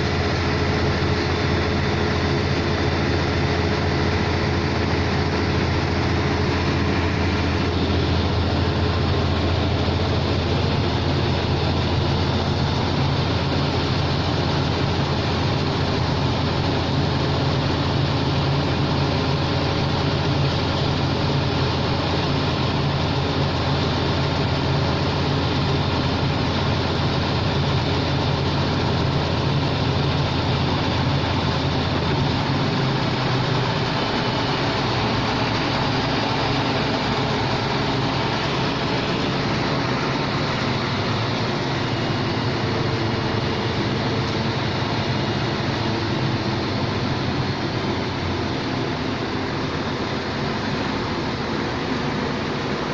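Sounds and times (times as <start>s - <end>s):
air compressor engine humming: 0.0s - 52.9s.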